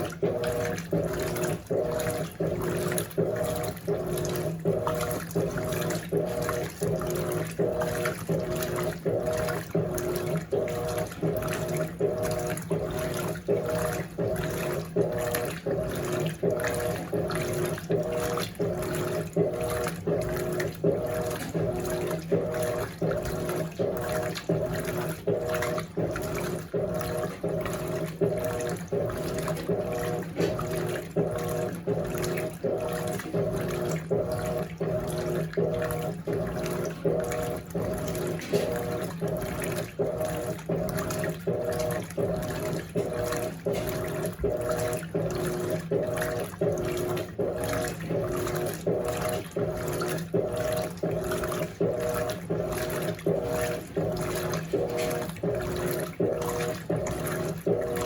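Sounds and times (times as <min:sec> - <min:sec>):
washing machine motor hum pulsing: 0:00.0 - 0:58.0
water sloshing in a tub: 0:00.0 - 0:58.0.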